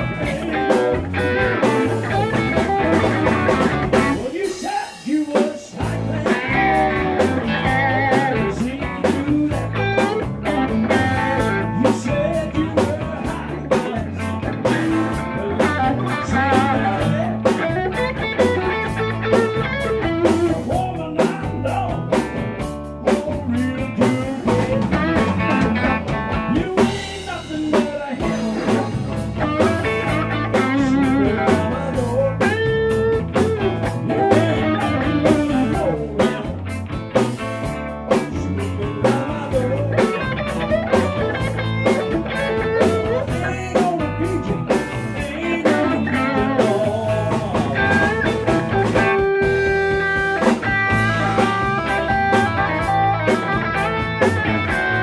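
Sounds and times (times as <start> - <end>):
drum kit: 0.0 - 55.0
electric bass: 0.0 - 55.0
electric guitar lead: 0.0 - 55.0.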